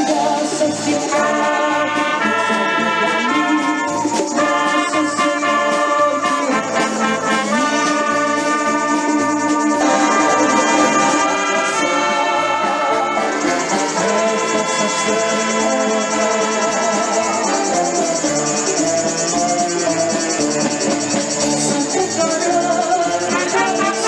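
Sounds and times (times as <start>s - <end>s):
wind band playing held chords: 0.0s - 24.0s.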